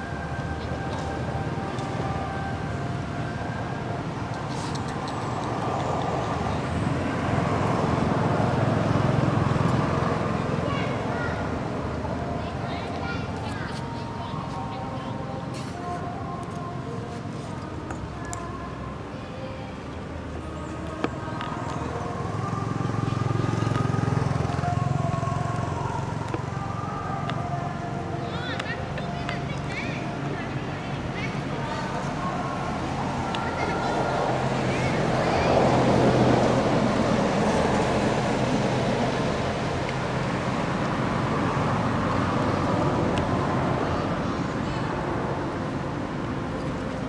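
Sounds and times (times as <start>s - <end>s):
passing vehicle engine rumble: 0.0s - 47.0s.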